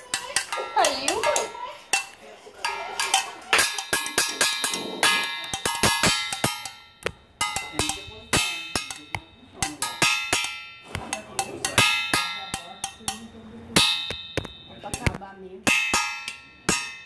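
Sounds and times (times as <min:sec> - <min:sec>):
sharp metallic strikes: 0:03.1 - 0:17.0.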